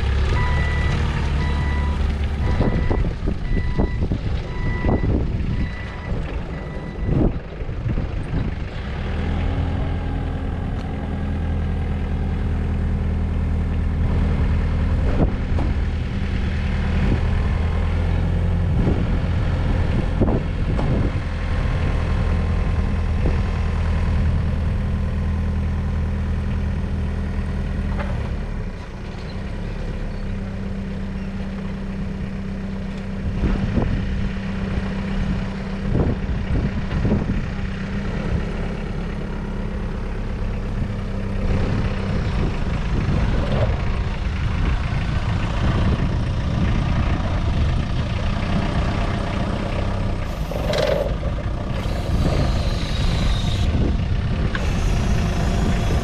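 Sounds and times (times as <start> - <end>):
forklift diesel engine running: 0.0 - 56.0.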